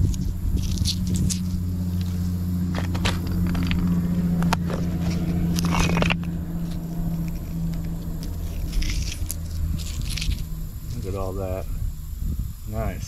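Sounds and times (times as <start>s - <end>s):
gravel crunching underfoot: 0.0s - 13.0s
steady low hum: 0.0s - 13.0s.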